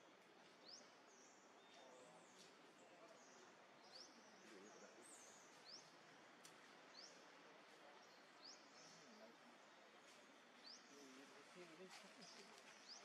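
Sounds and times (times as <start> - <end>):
faint outdoor hiss: 0.0 - 13.0
small birds chirping: 0.0 - 13.0.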